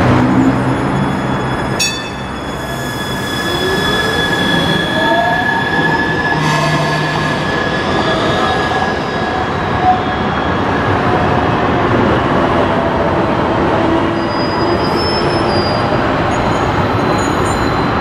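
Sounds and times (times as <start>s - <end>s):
tram wheel squeals: 0.0s - 11.4s, 13.8s - 18.0s
tram wheels rumbling on rails: 0.0s - 18.0s.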